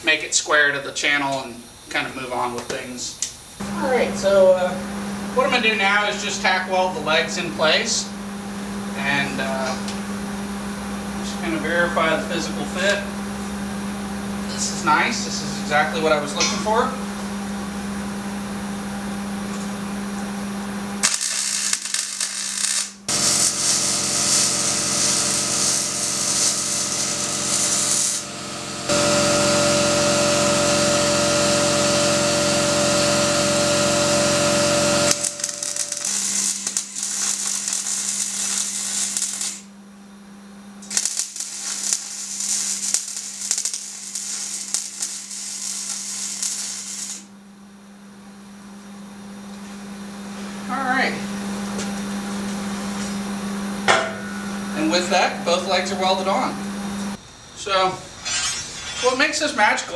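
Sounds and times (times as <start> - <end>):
welder arc buzz and crackle: 0.0 - 59.9.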